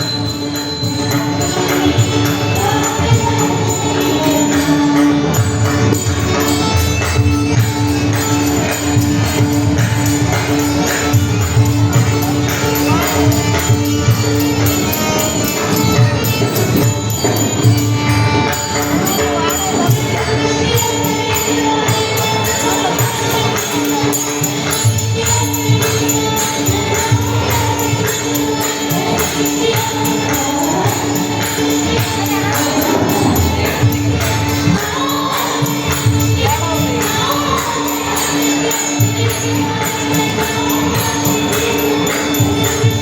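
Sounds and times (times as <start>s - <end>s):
hand cymbals clashing: 0.0s - 43.0s.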